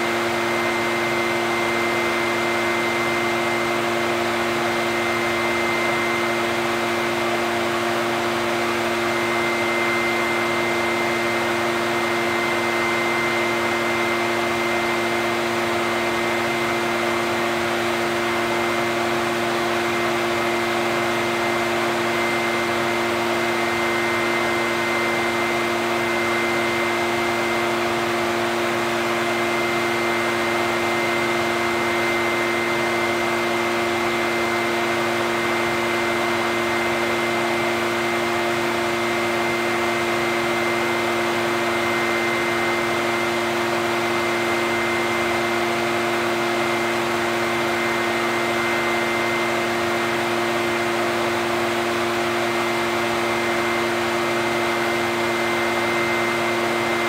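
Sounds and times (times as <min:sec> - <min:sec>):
leaf blower running: 0:00.0 - 0:57.0.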